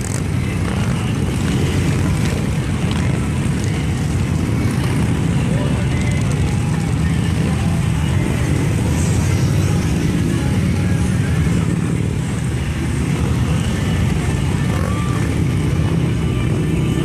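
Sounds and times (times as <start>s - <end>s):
many motorcycle engines rumbling: 0.0s - 17.0s.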